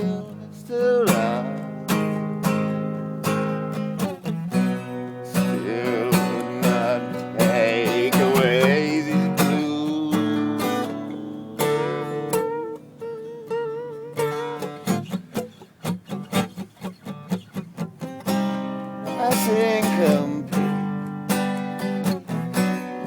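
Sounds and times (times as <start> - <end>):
strummed acoustic guitar: 0.0 - 23.0.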